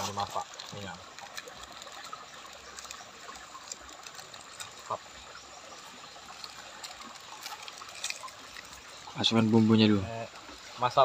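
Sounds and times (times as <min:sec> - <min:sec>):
light crackles and ticks: 0:00.0 - 0:09.8
faint trickling water: 0:00.0 - 0:11.0.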